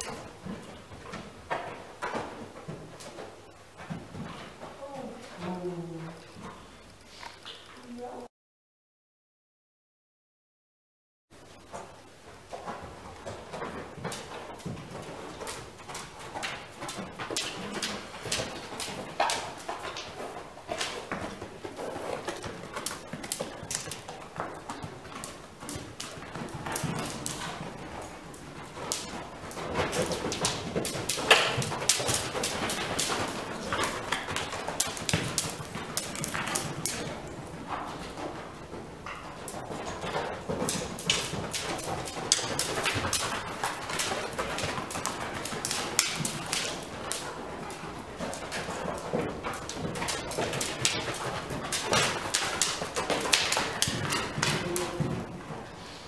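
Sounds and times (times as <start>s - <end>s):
horse hooves on sand: 0.0s - 7.7s, 11.4s - 56.0s.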